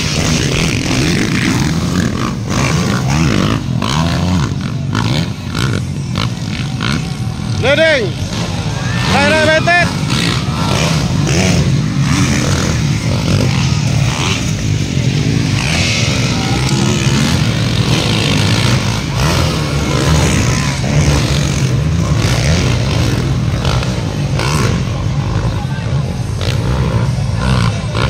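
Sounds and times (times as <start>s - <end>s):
dirt bike engines revving: 0.0s - 28.0s
voices in background: 0.0s - 28.0s.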